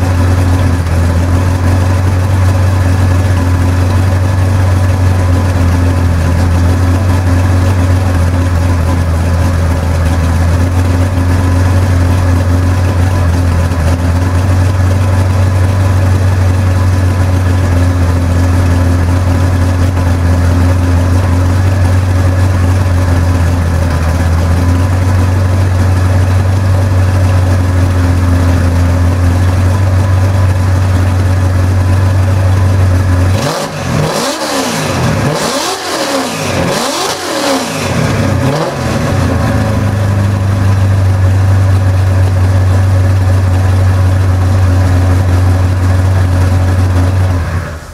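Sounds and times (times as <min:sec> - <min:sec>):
car engine idling and revving: 0:00.0 - 0:47.9.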